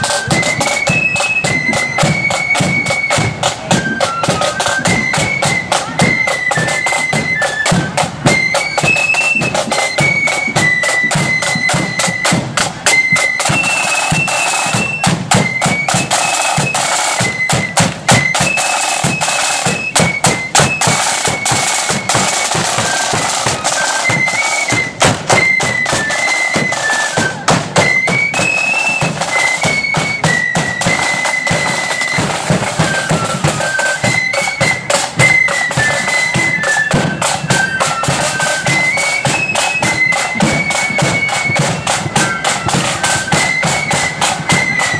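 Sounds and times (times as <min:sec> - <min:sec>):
flutes playing melody: 0:00.0 - 0:44.9
side drums: 0:00.0 - 0:44.9.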